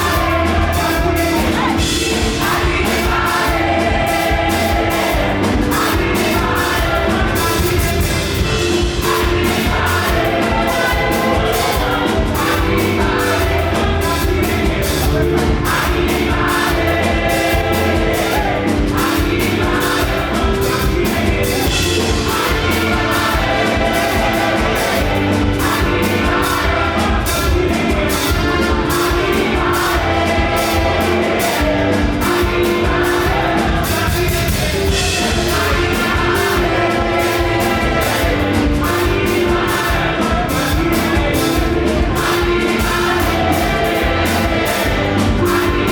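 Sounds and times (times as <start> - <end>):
band with driving beat: 0.0 - 45.9
group singing gospel: 0.0 - 45.9.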